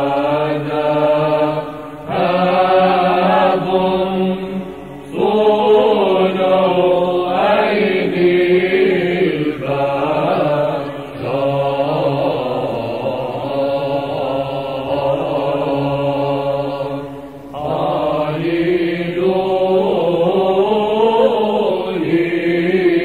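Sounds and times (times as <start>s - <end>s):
chanters singing church chant: 0.0s - 23.0s.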